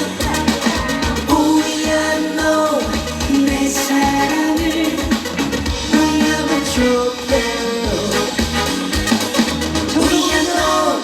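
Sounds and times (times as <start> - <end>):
man singing: 0.0 - 9.0, 9.9 - 11.0
backing track with steady beat: 0.0 - 11.0.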